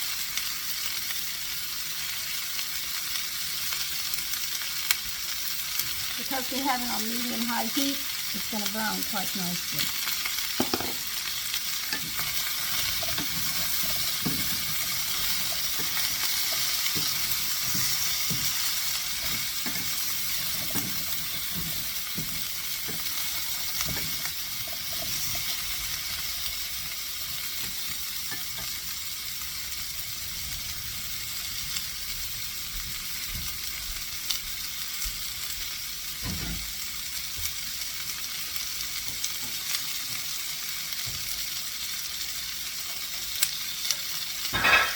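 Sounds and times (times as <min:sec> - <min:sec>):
zucchini sizzling in oil: 0:00.0 - 0:44.9.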